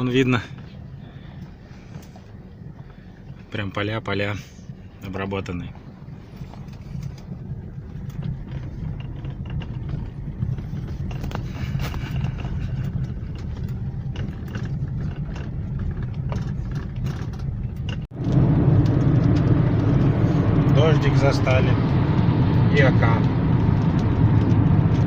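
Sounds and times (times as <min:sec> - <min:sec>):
car road noise: 0:00.0 - 0:25.0.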